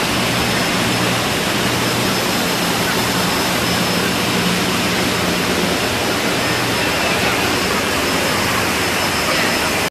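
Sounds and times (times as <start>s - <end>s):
industrial machinery roar: 0.0s - 9.9s.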